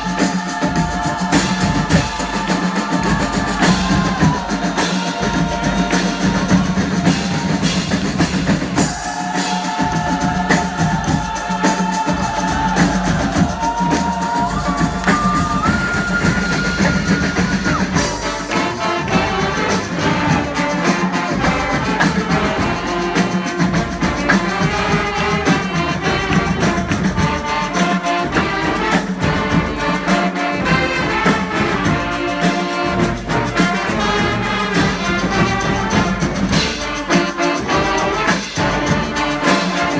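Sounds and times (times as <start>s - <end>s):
brass band playing: 0.0s - 39.9s
steady drumming: 0.0s - 39.9s.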